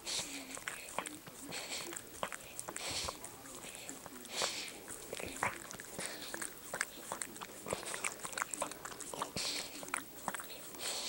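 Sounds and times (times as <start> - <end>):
dog licking and chewing: 0.0 - 11.0
dog sniffing: 0.0 - 11.0.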